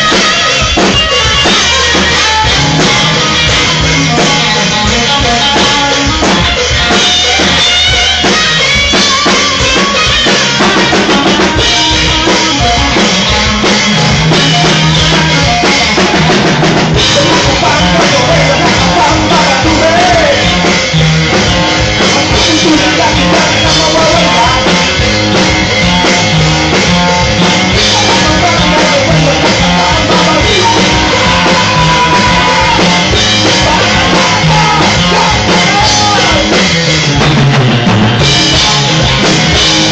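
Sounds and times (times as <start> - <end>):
rock band playing loudly: 0.0 - 39.9.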